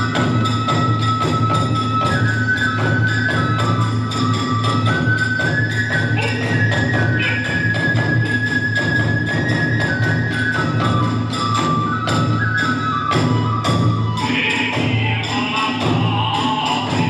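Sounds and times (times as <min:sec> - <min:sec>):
bamboo flute long high notes: 0:00.0 - 0:17.0
taiko drum beating: 0:00.0 - 0:17.0.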